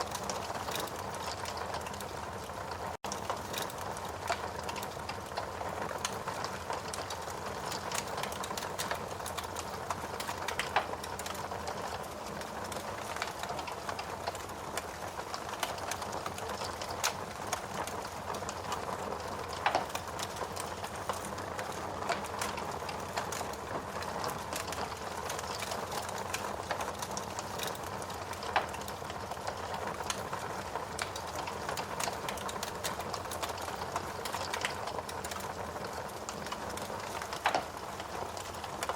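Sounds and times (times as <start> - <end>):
loud fire snaps: 0.0 - 2.2, 2.8 - 38.9
wood fire crackling: 0.0 - 38.9.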